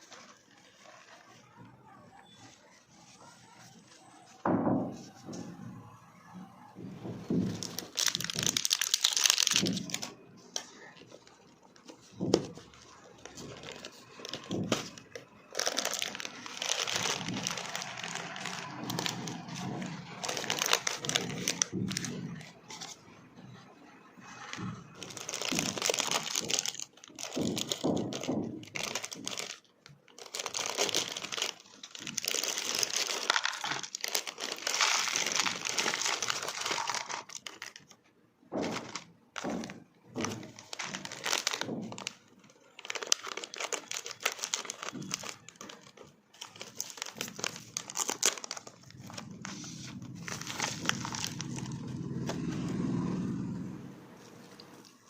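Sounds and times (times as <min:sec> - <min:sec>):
packaging crinkling and tearing: 0:07.3 - 0:23.0, 0:24.3 - 0:53.5.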